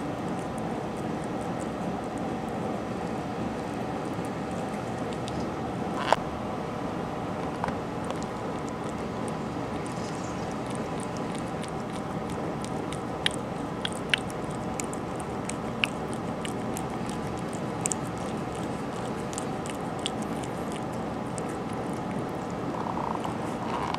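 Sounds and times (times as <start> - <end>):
cat licking spoon: 0.0 - 5.5, 8.1 - 23.6
steady background hiss: 0.0 - 23.9.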